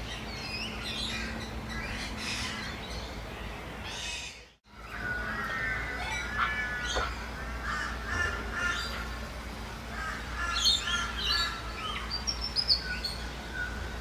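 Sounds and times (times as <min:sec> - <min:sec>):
harsh bird calls: 0:00.0 - 0:09.3, 0:09.9 - 0:14.0.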